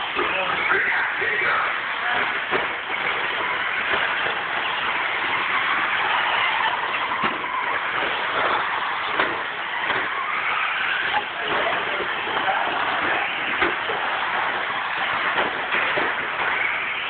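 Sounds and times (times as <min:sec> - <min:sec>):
tyres scrabbling on dirt: 0:00.0 - 0:17.0.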